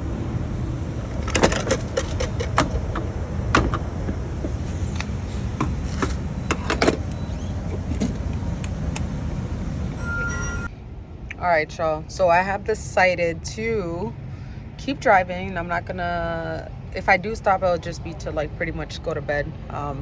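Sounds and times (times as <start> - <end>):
road noise: 0.0 - 20.0
van engine rumble: 0.0 - 20.0.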